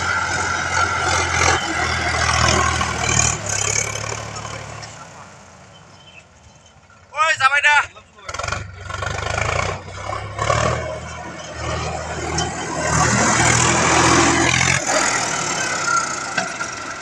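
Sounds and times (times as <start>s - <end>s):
tractor diesel engine running: 0.0s - 5.7s, 6.3s - 17.0s.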